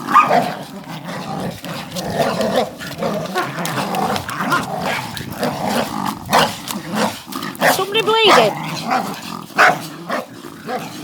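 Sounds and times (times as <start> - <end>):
dogs growling and scrapping: 0.0 - 11.0.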